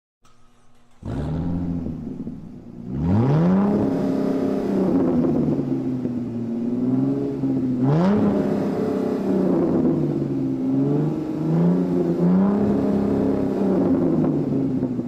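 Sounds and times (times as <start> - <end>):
supercar engine revving: 0.3 - 15.0.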